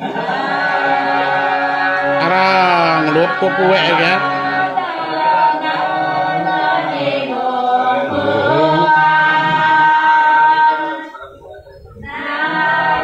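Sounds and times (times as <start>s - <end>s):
voices singing long held notes: 0.0s - 13.0s.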